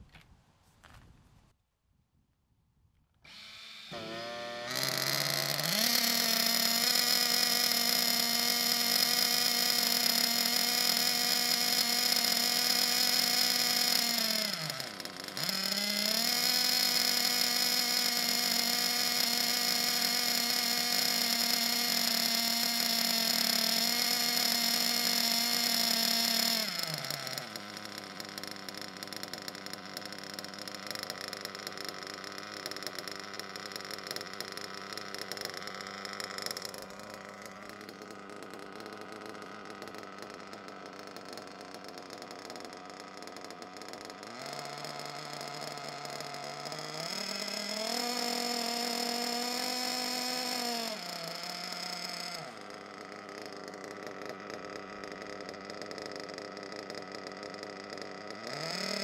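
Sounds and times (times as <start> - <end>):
model car engine running: 3.3 - 59.0.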